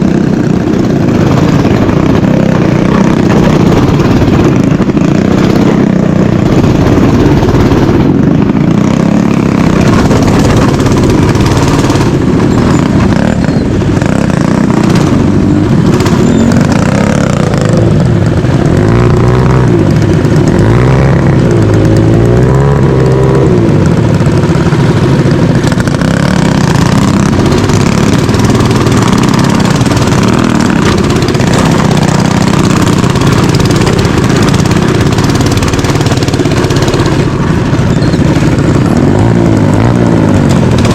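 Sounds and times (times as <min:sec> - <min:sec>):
mini bike engine revving: 0:00.0 - 0:40.9.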